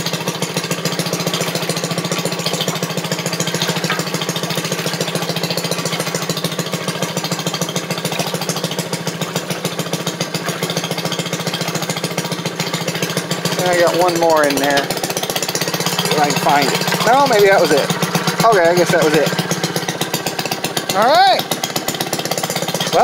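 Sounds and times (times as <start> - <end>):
two-stroke engine running: 0.0 - 23.0.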